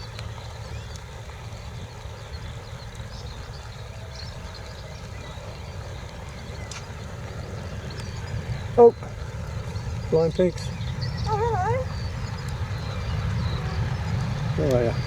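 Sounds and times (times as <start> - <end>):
small birds chirping: 0.0 - 15.0
wind buffeting microphone: 0.0 - 15.0.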